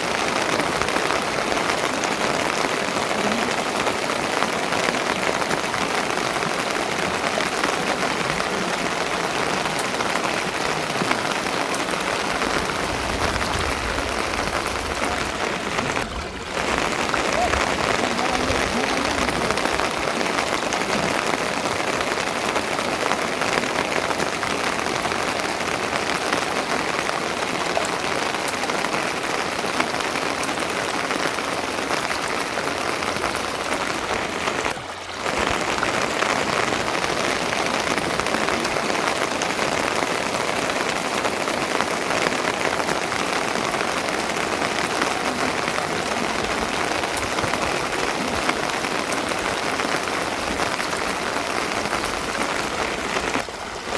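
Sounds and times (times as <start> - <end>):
dense rain falling: 0.0 - 53.9.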